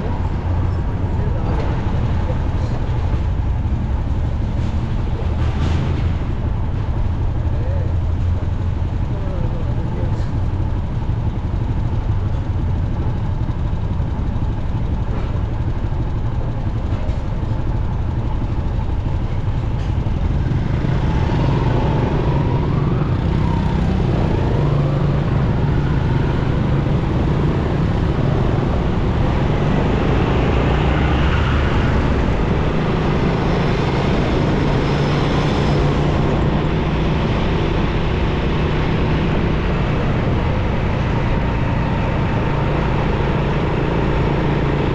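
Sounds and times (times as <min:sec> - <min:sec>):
motorcycle engine: 0:00.0 - 0:44.9
surrounding traffic: 0:00.0 - 0:44.9.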